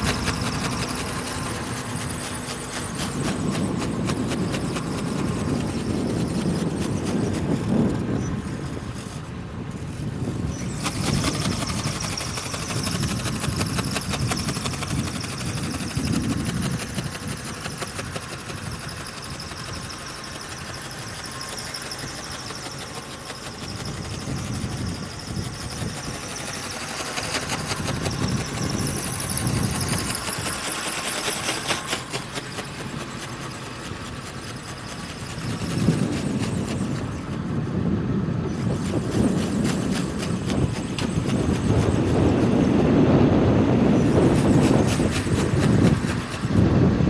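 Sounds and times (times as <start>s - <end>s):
model aircraft motor whining: 0.0s - 47.0s
wind rumbling on microphone: 0.0s - 47.0s.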